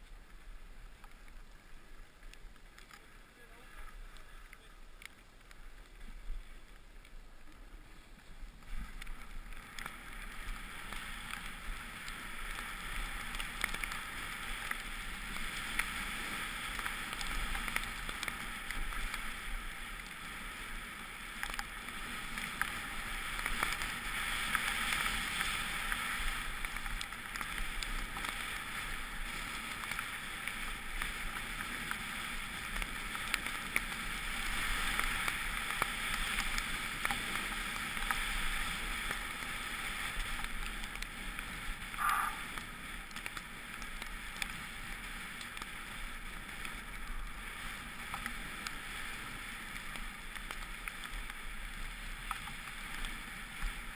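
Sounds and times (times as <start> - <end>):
skis scraping on snow: 0.0 - 53.9.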